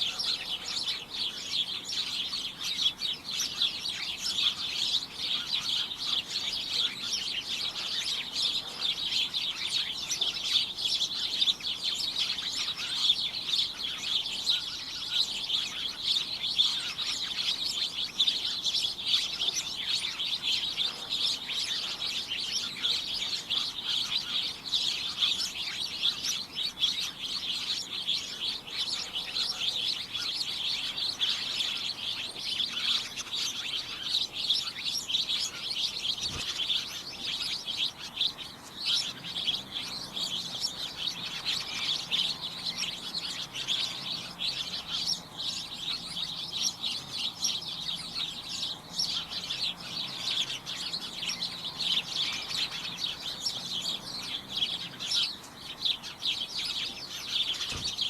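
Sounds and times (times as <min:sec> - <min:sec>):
flock of birds chirping: 0:00.0 - 0:58.0.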